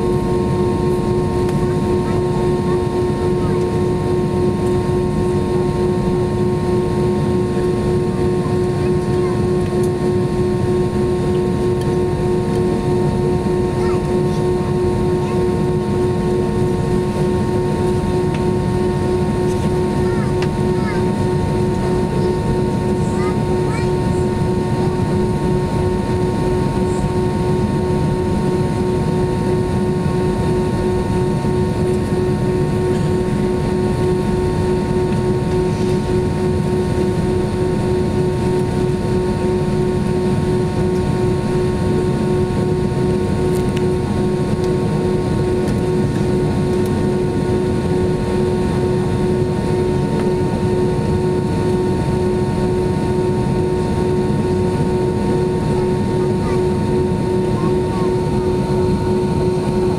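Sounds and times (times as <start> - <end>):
aircraft cabin rumble: 0.0 - 59.9
constant whining tones: 0.0 - 59.9.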